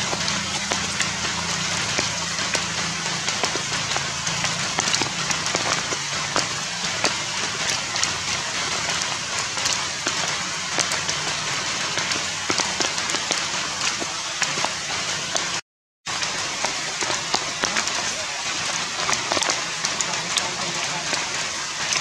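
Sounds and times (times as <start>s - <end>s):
raindrops ticking on surfaces: 0.0s - 22.0s
steady rain falling: 0.0s - 22.0s.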